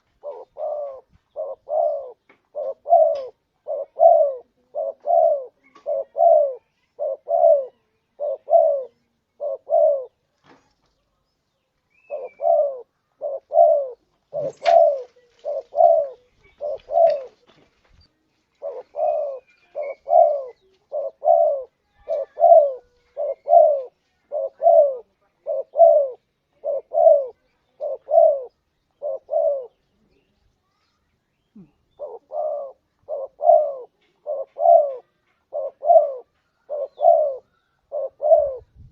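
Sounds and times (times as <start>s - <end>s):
dove cooing: 0.0s - 10.3s, 11.9s - 17.6s, 18.5s - 30.3s, 31.5s - 38.9s.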